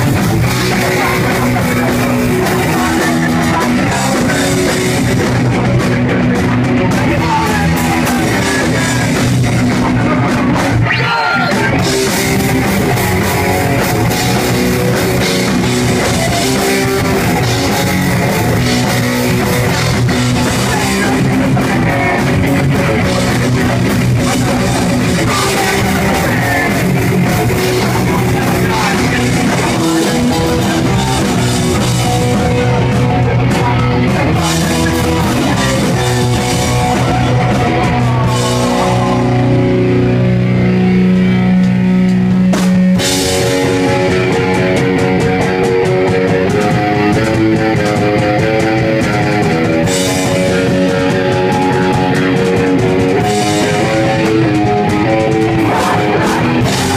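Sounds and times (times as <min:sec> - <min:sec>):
drum kit: 0:00.0 - 0:56.9
electric guitar: 0:00.0 - 0:56.9.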